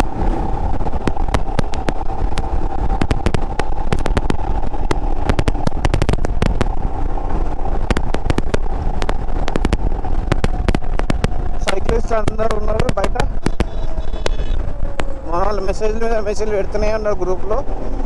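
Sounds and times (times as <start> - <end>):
short sharp crackles: 0.0 - 15.3
motorcycle engine running: 0.0 - 15.5.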